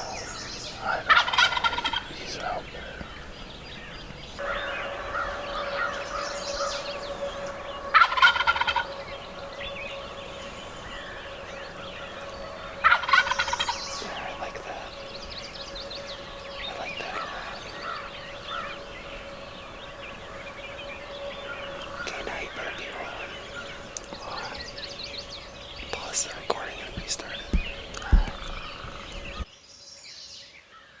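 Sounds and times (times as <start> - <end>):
turkey gobbling: 0.0 - 29.4
songbirds chirping: 0.0 - 31.0.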